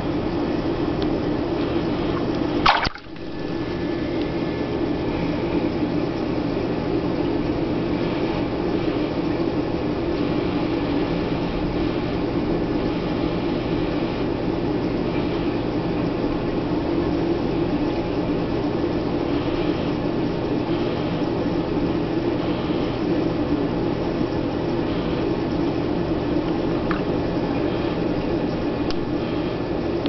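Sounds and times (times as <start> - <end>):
aquarium water pumps rushing: 0.0 - 30.0.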